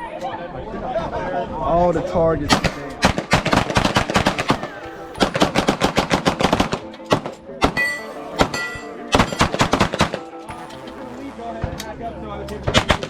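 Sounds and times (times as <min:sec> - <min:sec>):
gunfire: 0:02.5 - 0:13.0.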